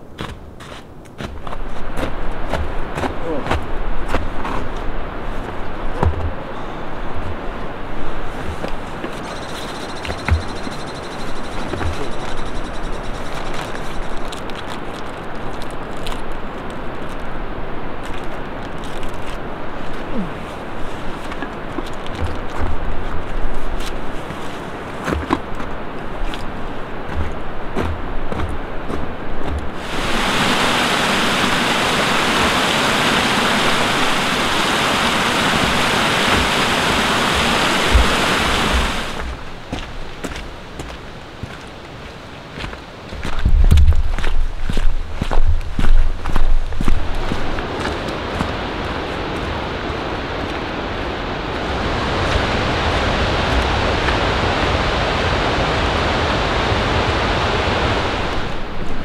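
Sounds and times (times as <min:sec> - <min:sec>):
faint footsteps on trail: 0:00.0 - 0:17.4, 0:18.0 - 0:31.5, 0:35.2 - 0:54.2
creek water rushing over rocks: 0:02.0 - 0:59.0.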